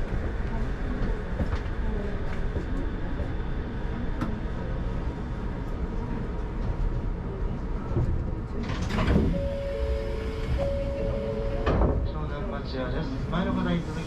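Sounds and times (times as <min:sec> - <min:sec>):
monorail car rumbling: 0:00.0 - 0:14.0.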